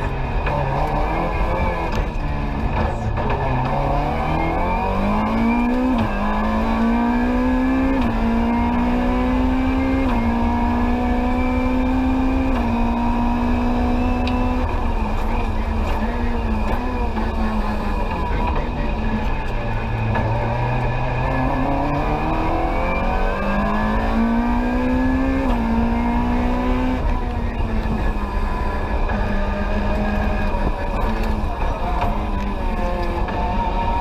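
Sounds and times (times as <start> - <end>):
rally car engine accelerating: 0.0 - 34.0.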